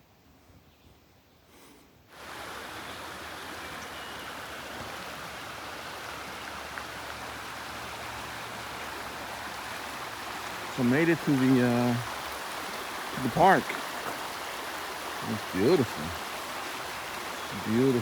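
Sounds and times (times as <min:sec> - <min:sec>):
stream water rushing: 0:02.1 - 0:18.0.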